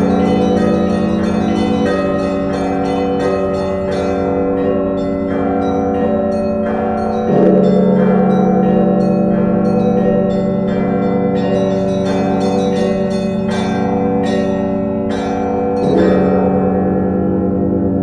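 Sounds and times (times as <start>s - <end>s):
large low bell struck: 0.0s - 18.0s
middle bells ringing: 0.0s - 18.0s
small church bells chiming: 0.0s - 18.0s.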